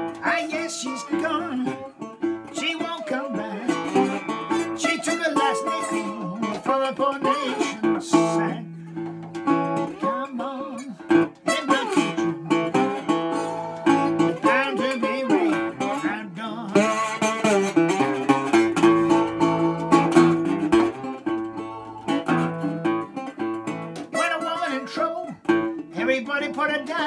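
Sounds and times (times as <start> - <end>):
slide guitar blues: 0.0 - 27.0.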